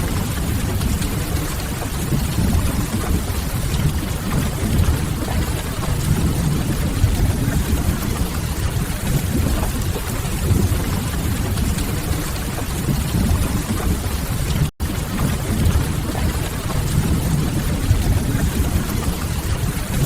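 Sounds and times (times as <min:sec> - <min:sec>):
rain hiss: 0:00.0 - 0:12.7, 0:14.8 - 0:20.0.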